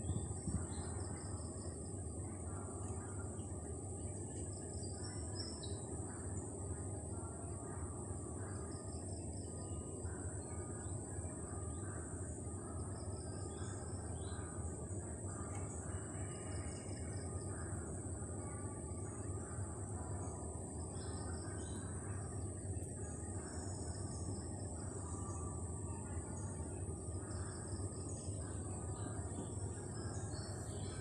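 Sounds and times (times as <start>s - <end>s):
high-pitched whine: 0.0s - 31.0s
low hum: 0.0s - 31.0s.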